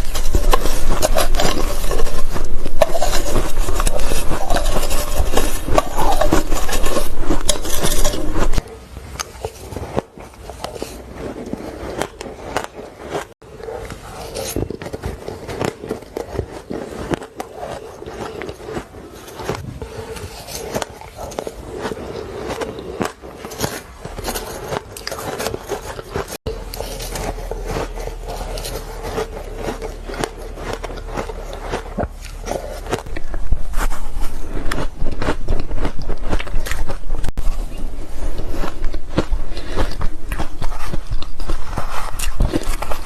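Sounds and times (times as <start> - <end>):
person chewing ice: 0.0 - 43.0.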